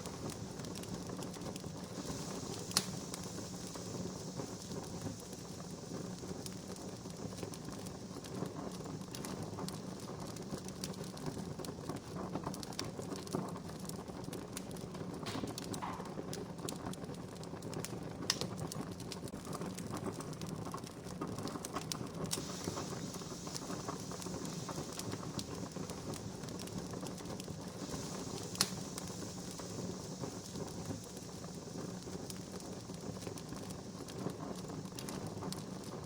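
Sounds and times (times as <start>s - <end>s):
campfire crackling: 0.0s - 36.0s.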